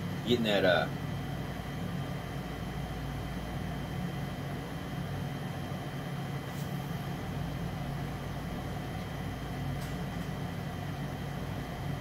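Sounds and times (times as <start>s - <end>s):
equipment hum and hiss: 0.0s - 12.0s.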